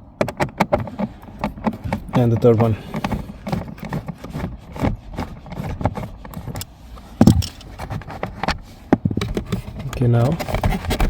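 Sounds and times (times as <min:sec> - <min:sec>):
clicks and scrapes on plastic trim: 0:00.2 - 0:11.0.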